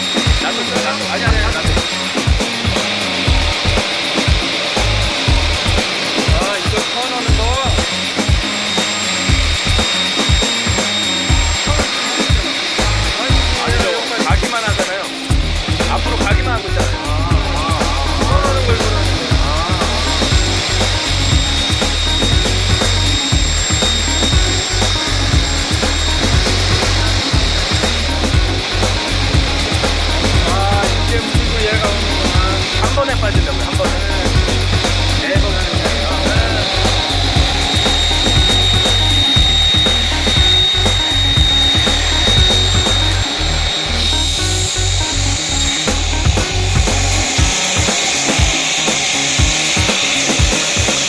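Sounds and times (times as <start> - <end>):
circular saw whining: 0.0 - 51.0
machine rhythmic clatter: 0.0 - 51.0.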